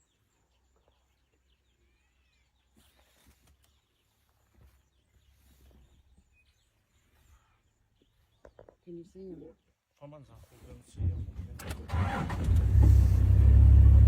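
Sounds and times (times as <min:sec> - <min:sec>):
soft bird chirps: 0:00.0 - 0:11.4.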